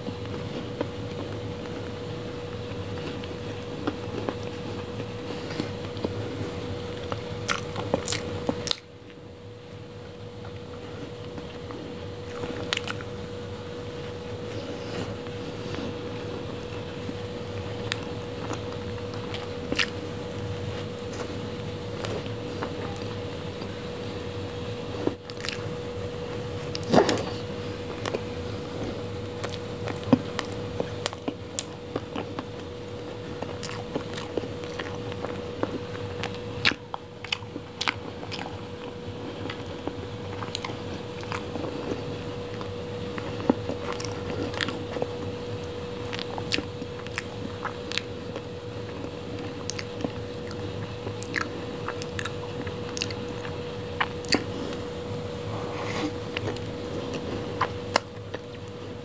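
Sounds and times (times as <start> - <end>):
close chewing: 0.0 - 9.2, 10.4 - 13.2, 14.0 - 23.8, 25.0 - 25.7, 26.6 - 54.9, 55.7 - 59.0.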